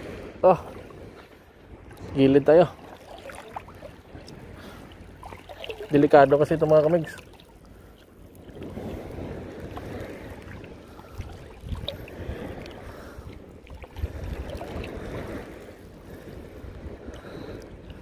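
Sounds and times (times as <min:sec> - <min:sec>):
water sloshing at shoreline: 0:00.0 - 0:18.0
wind buffeting microphone: 0:00.0 - 0:18.0.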